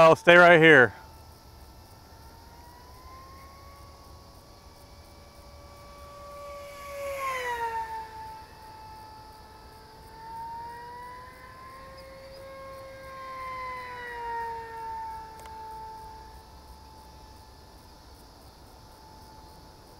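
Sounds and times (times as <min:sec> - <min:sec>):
model plane motor whine: 0:00.0 - 0:19.9.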